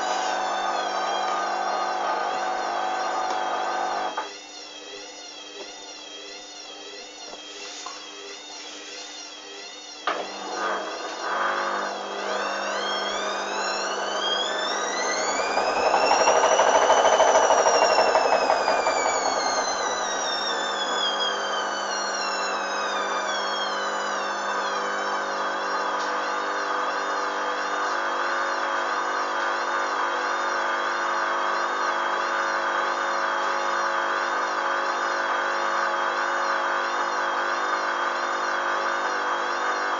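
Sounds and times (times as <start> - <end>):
washing machine motor whine: 0.0 - 39.9.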